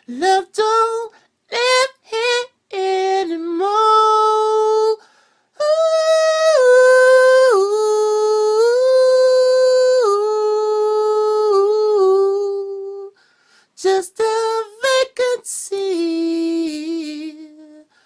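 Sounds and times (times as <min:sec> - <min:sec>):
man singing unaccompanied: 0:00.0 - 0:05.0, 0:05.6 - 0:13.2, 0:13.8 - 0:17.9.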